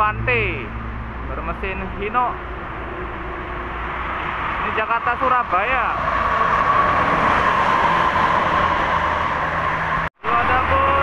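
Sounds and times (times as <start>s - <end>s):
coach engine and tyre noise: 0.0s - 11.0s
high whine: 0.0s - 11.0s.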